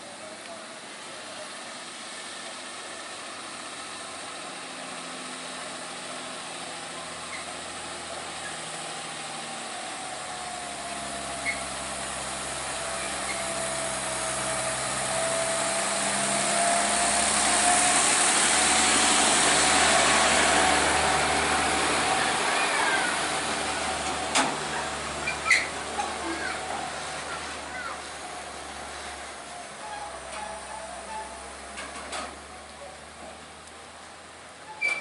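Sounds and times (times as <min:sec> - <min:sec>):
truck diesel engine under load: 0:00.0 - 0:35.0.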